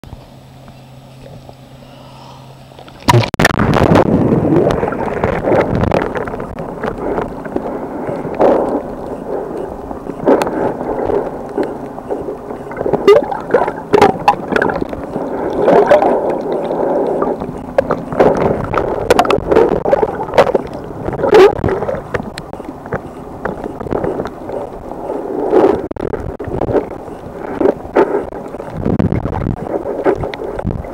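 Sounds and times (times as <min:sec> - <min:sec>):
underwater gurgling and sloshing: 0:02.4 - 0:30.9.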